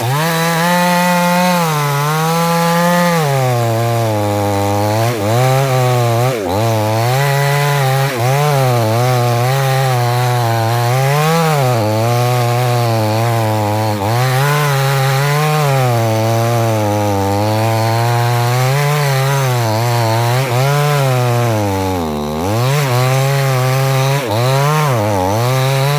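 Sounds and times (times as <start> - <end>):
chainsaw cutting wood: 0.0 - 25.9.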